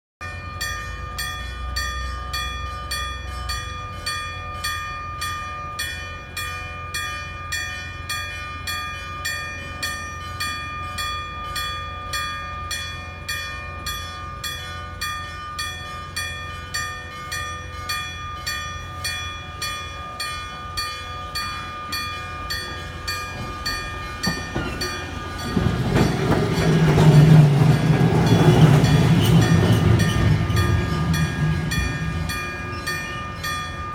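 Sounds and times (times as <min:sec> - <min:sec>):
electric warning bell ringing: 0:00.2 - 0:33.9
tram passing over crossing: 0:00.2 - 0:33.9.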